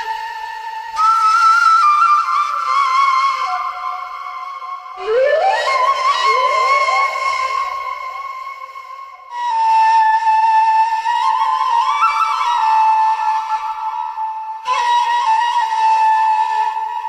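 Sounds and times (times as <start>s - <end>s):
flute-like wind melody: 0.0s - 17.0s.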